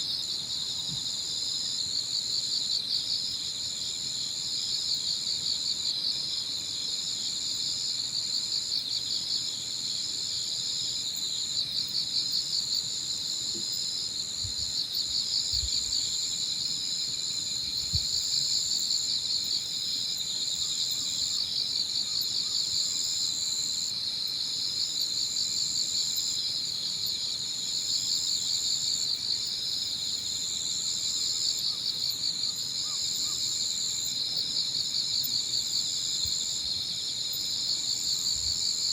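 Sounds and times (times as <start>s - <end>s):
crickets and insects singing: 0.0s - 38.9s
rapidly pulsing insect trill: 0.0s - 38.9s.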